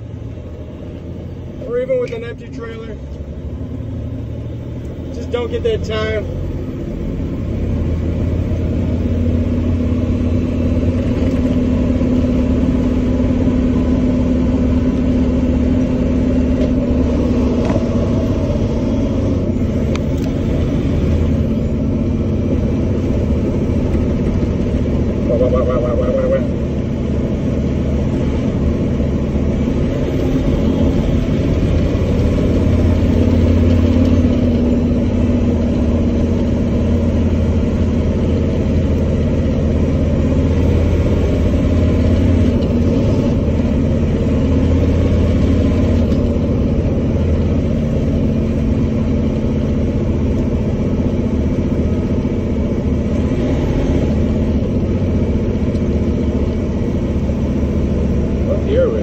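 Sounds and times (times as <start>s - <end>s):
diesel truck engine drone: 0.0s - 59.0s.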